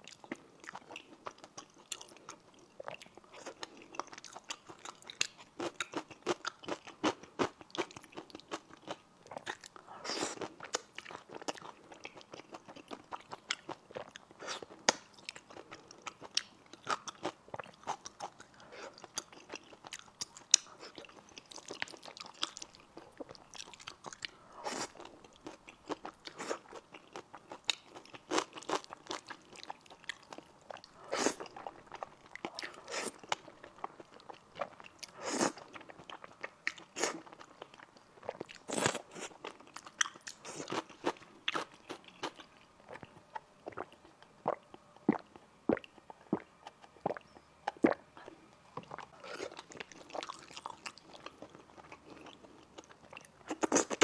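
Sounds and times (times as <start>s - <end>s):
chewing and biting noodles: 0.0s - 43.9s, 48.8s - 54.0s.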